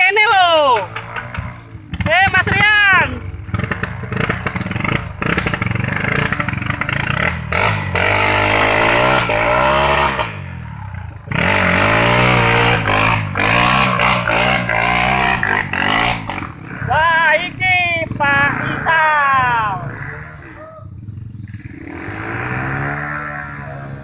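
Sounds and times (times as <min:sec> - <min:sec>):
motorcycle engine revving hard: 0:00.3 - 0:24.0.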